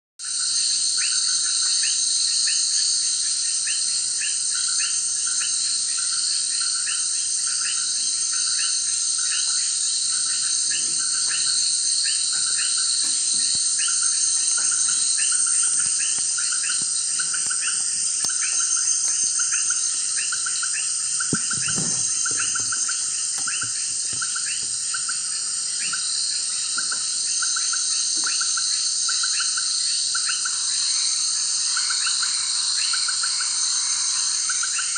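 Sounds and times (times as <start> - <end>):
insect chorus drone: 0.2 - 34.9.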